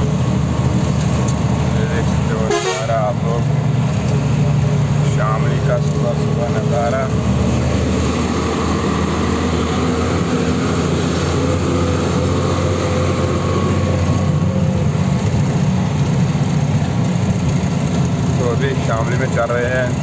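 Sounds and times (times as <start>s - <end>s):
road noise: 0.0s - 20.0s
truck engine running: 0.0s - 20.0s.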